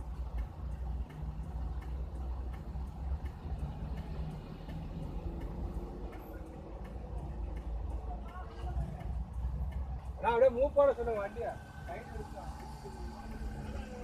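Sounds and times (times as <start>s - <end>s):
faint regular ticking: 0.0s - 14.0s.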